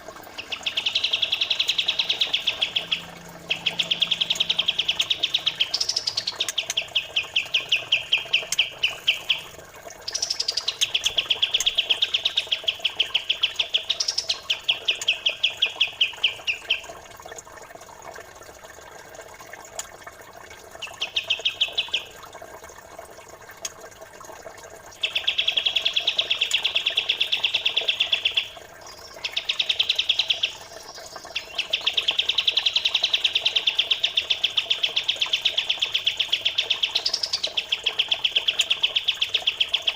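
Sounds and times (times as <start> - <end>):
faint water trickle: 0.0 - 39.9
rapid bird chirps: 0.3 - 16.9, 20.8 - 22.2, 25.0 - 39.9.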